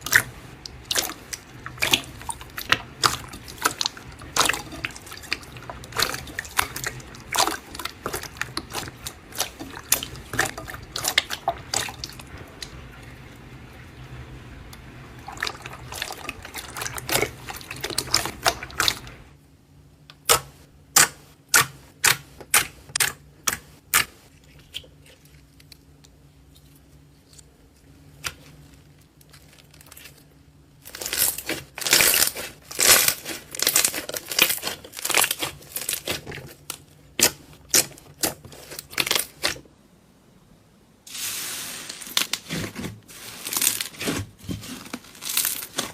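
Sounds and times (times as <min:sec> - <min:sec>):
faint low hum: 0:00.0 - 0:45.9.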